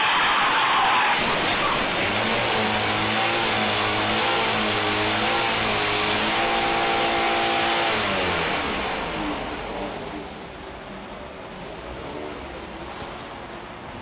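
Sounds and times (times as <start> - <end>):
car engine at high revs: 0.1 - 12.9.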